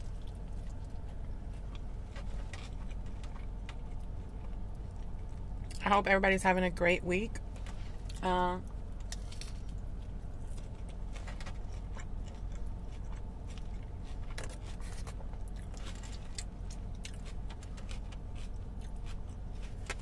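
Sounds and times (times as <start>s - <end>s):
person chewing crunchy food: 0.0s - 5.8s, 8.8s - 20.0s
low hum: 0.0s - 20.0s.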